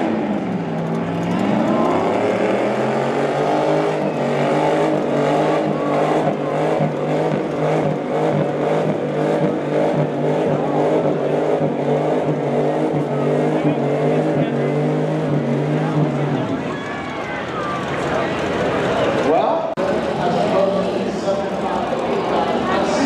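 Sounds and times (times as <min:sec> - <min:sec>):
truck engine running hard: 0:00.0 - 0:23.0.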